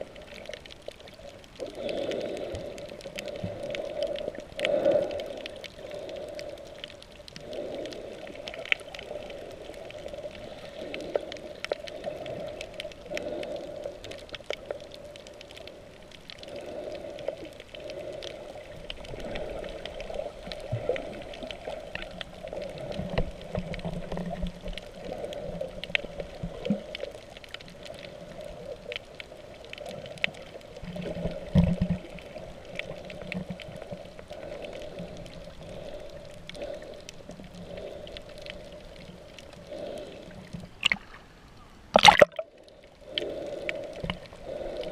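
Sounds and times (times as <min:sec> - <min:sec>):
sharp clicks and crackles: 0:00.0 - 0:41.2, 0:41.9 - 0:44.9
muffled underwater water rush: 0:00.0 - 0:44.9.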